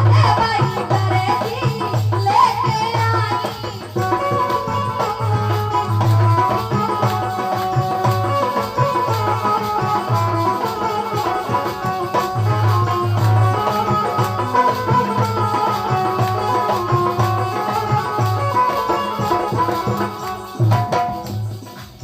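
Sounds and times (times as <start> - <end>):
hand-drum beats: 0.0 - 22.0
held melody: 0.0 - 22.0
rattling percussion: 0.0 - 22.0.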